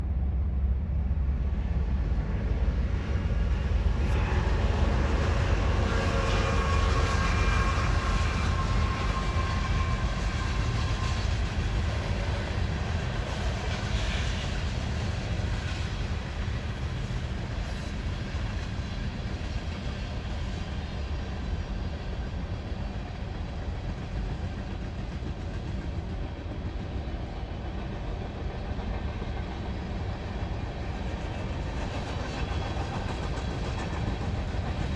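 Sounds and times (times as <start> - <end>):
railcars rumbling past: 0.0 - 34.9.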